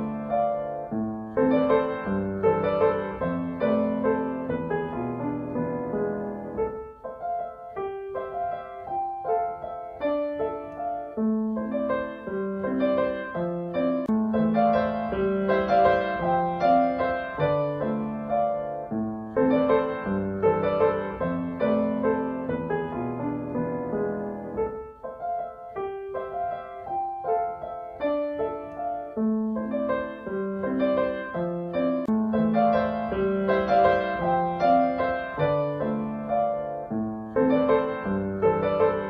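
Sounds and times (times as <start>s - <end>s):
gentle piano music: 0.0s - 39.0s.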